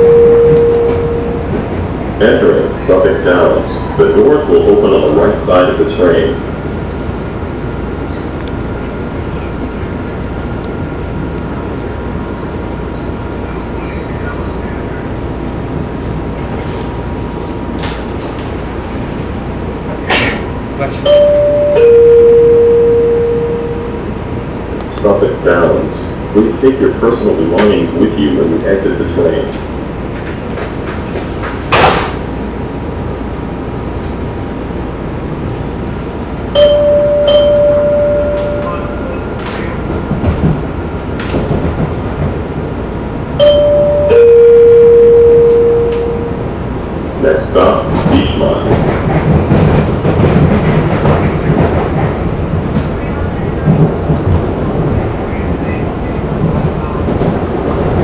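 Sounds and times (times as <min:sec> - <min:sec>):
subway car rumble: 0:00.0 - 0:58.0.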